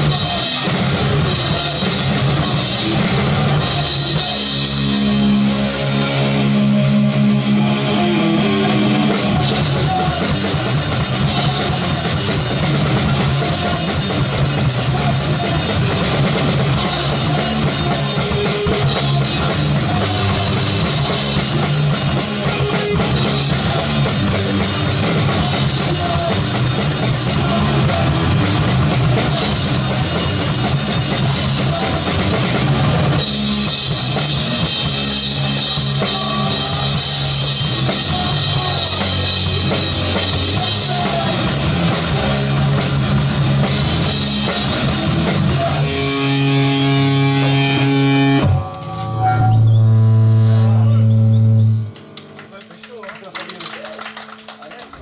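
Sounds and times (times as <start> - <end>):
distorted electric guitar: 0.0 - 53.0
bass guitar: 0.0 - 55.0.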